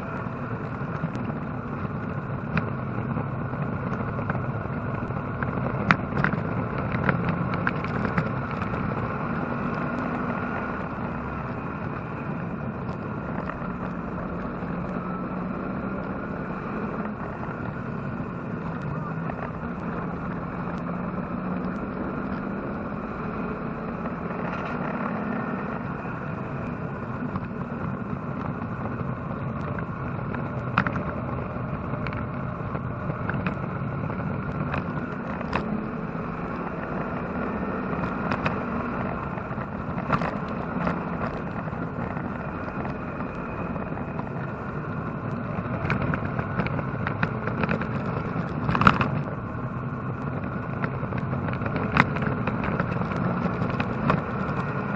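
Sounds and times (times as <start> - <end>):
race car engine: 0.0 - 54.9.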